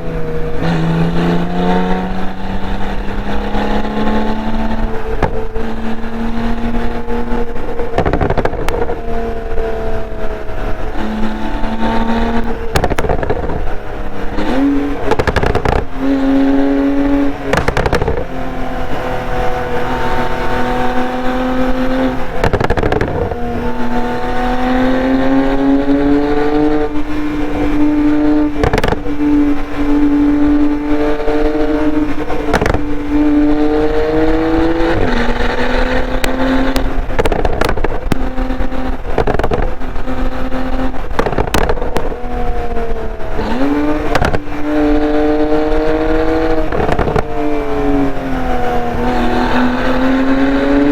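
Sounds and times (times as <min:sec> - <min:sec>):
sports car engine and exhaust: 0:00.0 - 0:50.9.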